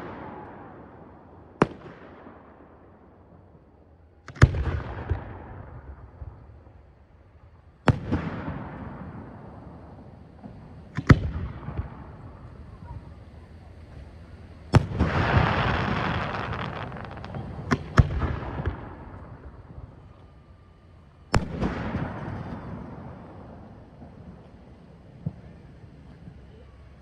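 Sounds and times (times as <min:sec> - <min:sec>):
fireworks bursting: 0:00.0 - 0:03.1, 0:04.1 - 0:27.0.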